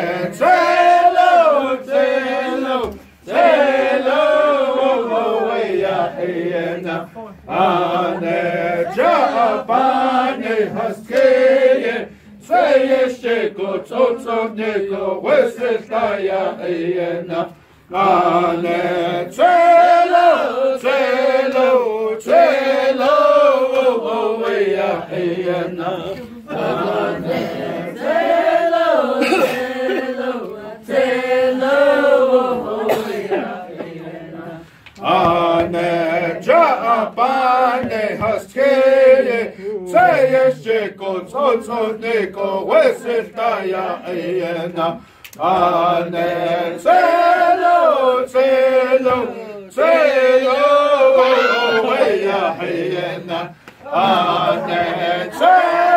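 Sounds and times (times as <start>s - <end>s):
group of voices chanting: 0.0s - 55.9s.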